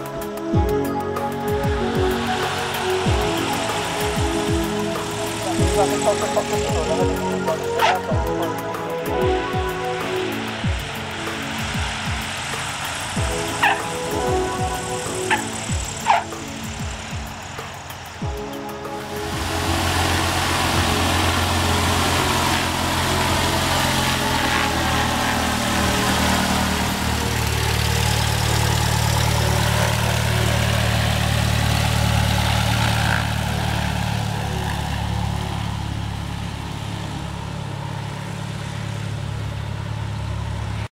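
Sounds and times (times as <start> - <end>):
propeller engine idling: 0.0 - 40.9.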